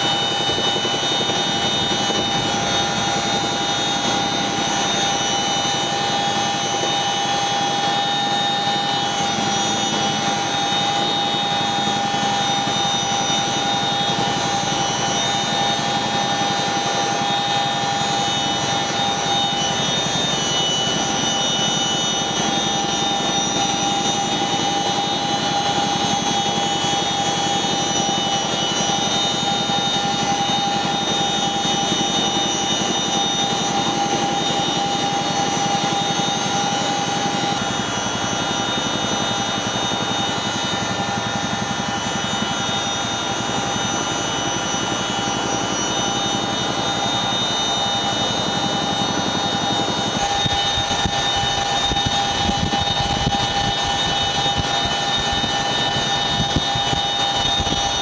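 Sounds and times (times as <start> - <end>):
helicopter rotor rumble: 0.0 - 58.0
helicopter turbine engines whining: 0.0 - 58.0.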